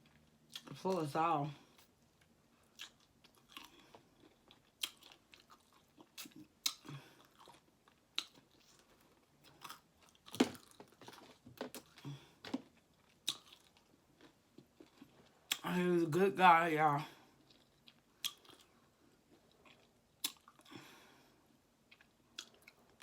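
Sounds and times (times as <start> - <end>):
person chewing crunchy food: 0.0 - 0.8, 1.7 - 15.6, 17.2 - 21.0, 21.8 - 23.0.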